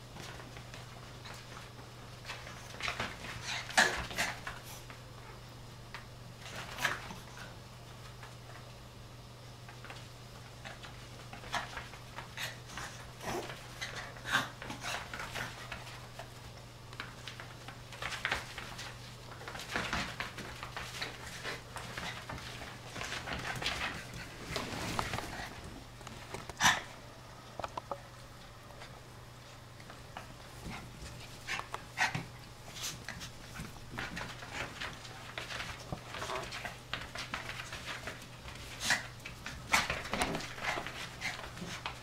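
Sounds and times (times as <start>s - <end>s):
puppies scuffling on rug: 0.0s - 27.0s, 28.1s - 42.0s.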